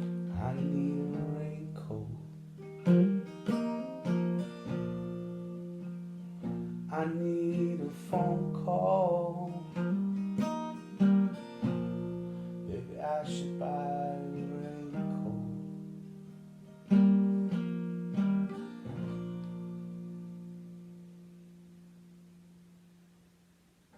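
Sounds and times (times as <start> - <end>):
acoustic guitar strummed chords: 0.0 - 23.6.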